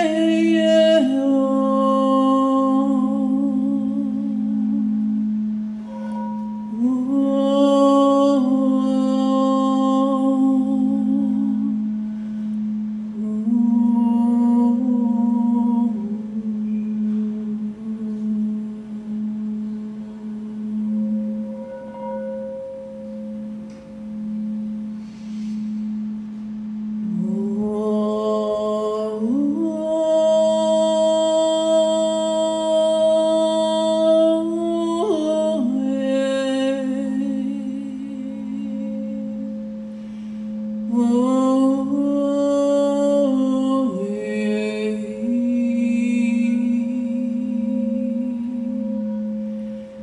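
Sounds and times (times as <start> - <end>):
singing bowl drone: 0.0 - 50.0.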